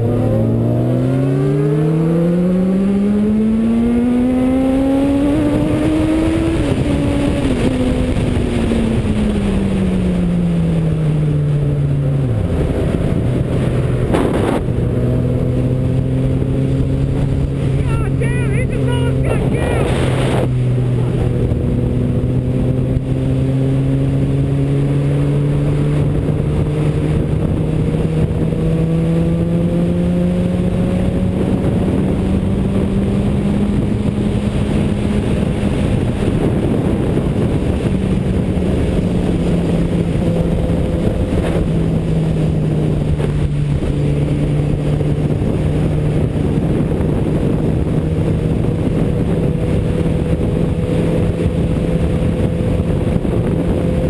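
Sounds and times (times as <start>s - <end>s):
car engine droning: 0.0s - 54.0s
road noise: 0.0s - 54.0s.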